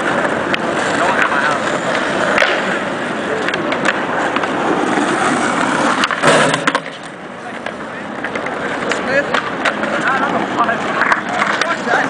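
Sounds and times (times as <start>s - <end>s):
skateboard clattering: 0.0s - 12.0s
skateboard wheels rolling on pavement: 0.0s - 12.0s.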